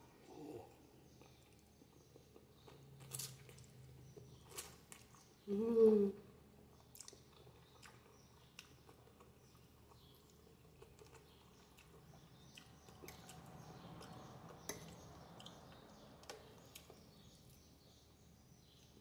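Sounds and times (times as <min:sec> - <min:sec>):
faint birds chirping: 0:00.0 - 0:19.0
quiet chewing: 0:00.2 - 0:05.4, 0:06.7 - 0:17.7.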